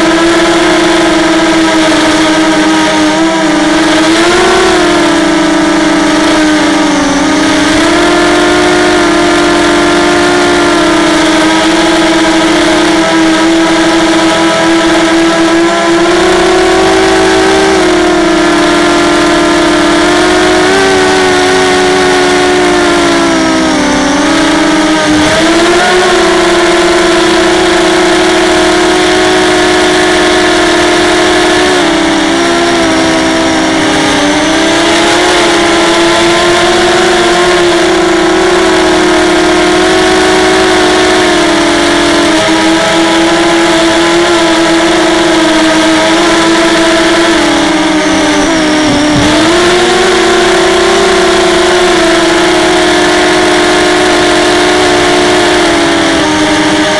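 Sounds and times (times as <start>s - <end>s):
quadcopter motors whining: 0.0s - 56.9s.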